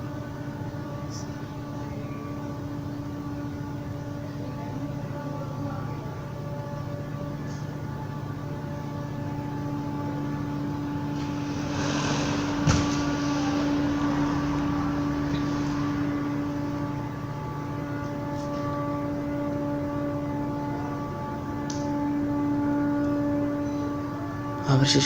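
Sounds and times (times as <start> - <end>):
trumpet-like droning hum: 0.0 - 25.0.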